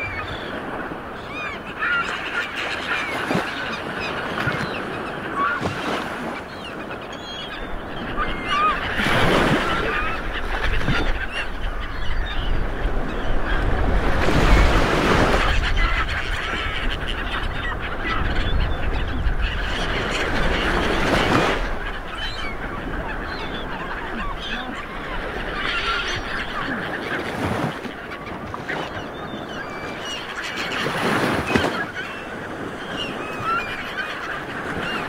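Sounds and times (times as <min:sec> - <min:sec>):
birds calling: 0:00.0 - 0:35.0
surf: 0:00.0 - 0:35.0
wind: 0:00.0 - 0:35.0.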